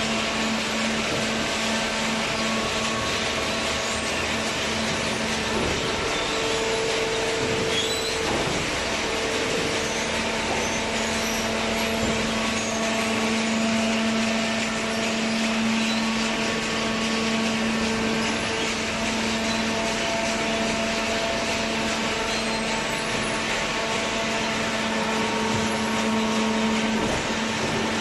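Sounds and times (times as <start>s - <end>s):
baler machine hum: 0.0s - 28.0s.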